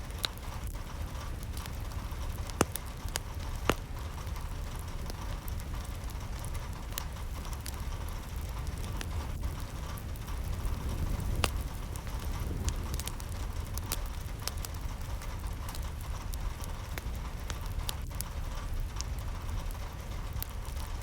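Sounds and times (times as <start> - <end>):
low rain rumble: 0.0 - 21.0
rain drops hitting: 0.0 - 21.0.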